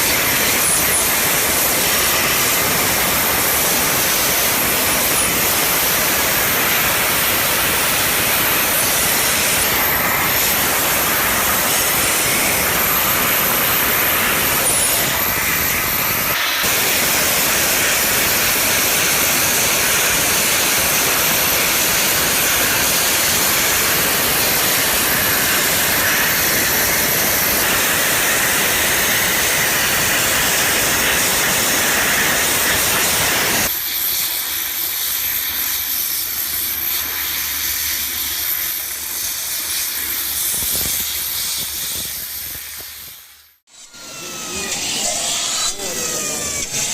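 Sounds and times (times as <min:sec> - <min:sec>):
workshop machinery rushing hiss: 0:00.0 - 0:46.9.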